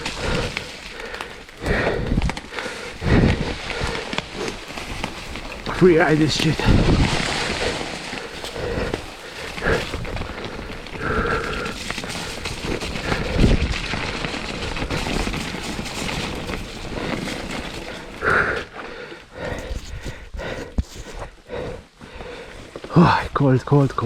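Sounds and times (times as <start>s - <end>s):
wind and tyre noise: 0.0s - 24.0s.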